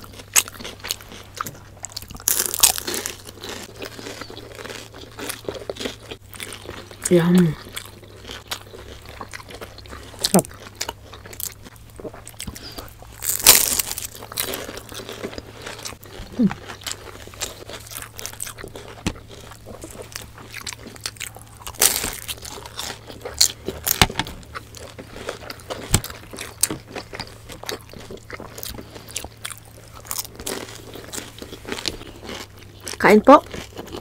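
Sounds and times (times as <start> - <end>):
crunchy bites and chewing: 0.0 - 34.0
crispy wrapper crackling: 2.1 - 9.6, 12.3 - 34.0.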